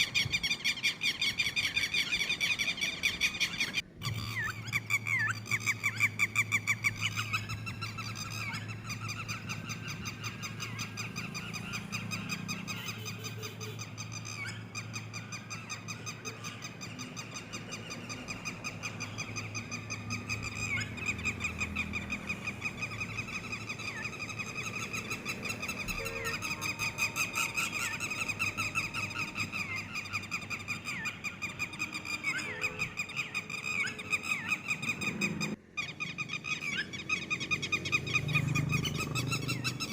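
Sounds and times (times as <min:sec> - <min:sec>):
lapwing calling rapidly: 0:00.0 - 0:39.9.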